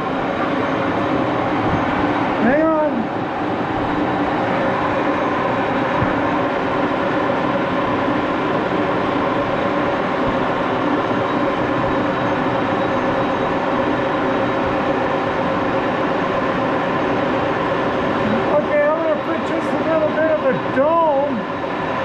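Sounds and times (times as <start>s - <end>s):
lathe gear whine: 0.0s - 22.0s.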